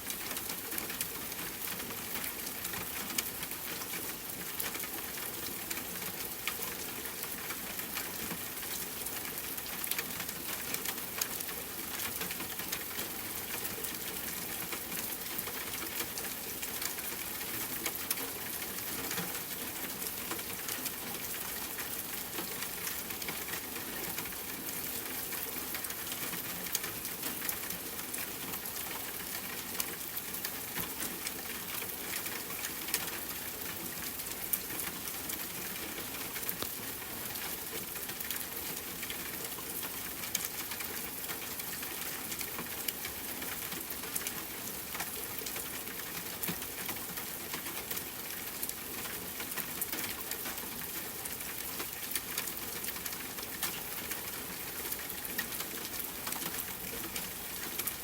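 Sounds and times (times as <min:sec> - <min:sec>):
rain falling on a tent: 0:00.0 - 0:58.0.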